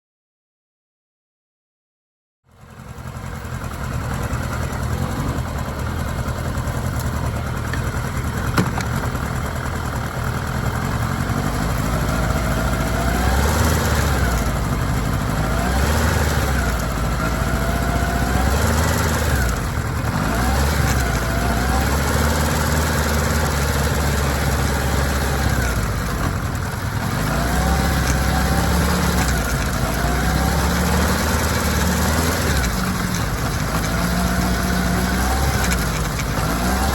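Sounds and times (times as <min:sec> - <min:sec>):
motorcycle engine running: 0:02.5 - 0:36.9.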